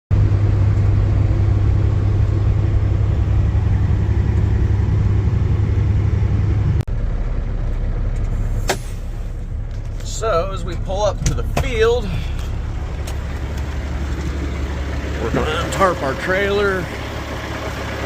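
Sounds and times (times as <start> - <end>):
engine low rumble: 0.1 - 18.0
quieter steady engine: 0.1 - 18.0.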